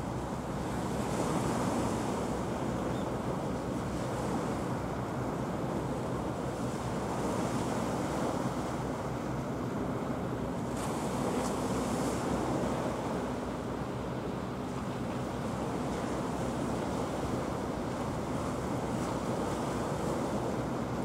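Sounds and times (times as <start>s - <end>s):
choppy sea washing: 0.0s - 21.0s.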